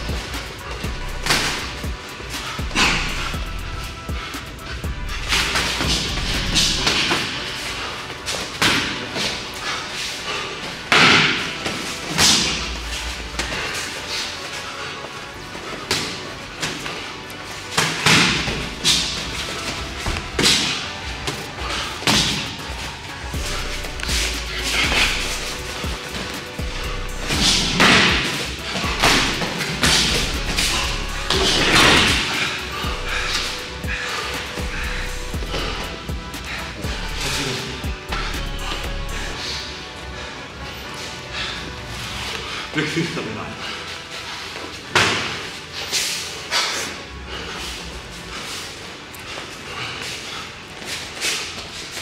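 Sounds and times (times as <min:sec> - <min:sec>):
background music: 0:00.0 - 0:52.0.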